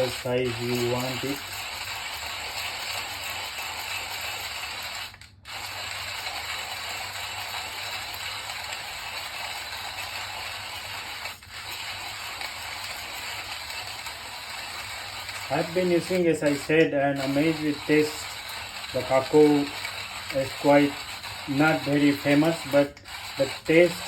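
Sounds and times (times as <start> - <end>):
hand-cranked coffee grinder grinding: 0.0 - 24.0.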